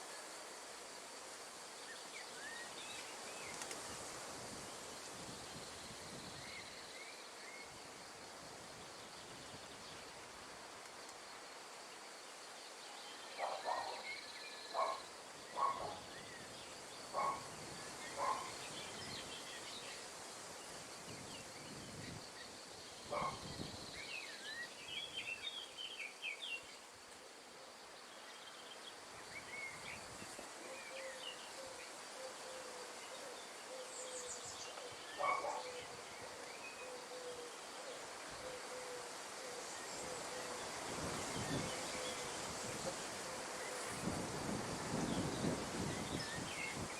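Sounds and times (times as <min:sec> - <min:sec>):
faint insect drone: 0:00.0 - 0:46.9
wind in trees: 0:00.0 - 0:46.9.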